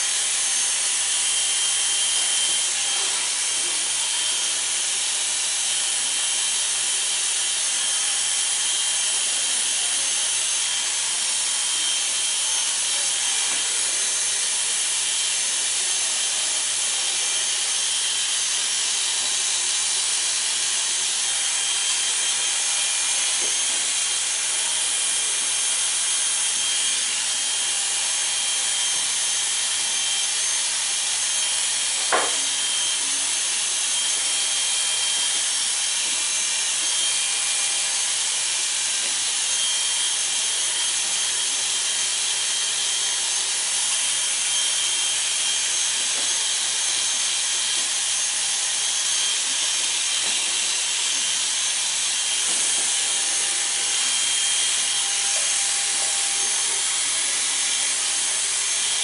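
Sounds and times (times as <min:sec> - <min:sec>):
electric hair clippers running: 0:00.0 - 0:59.0.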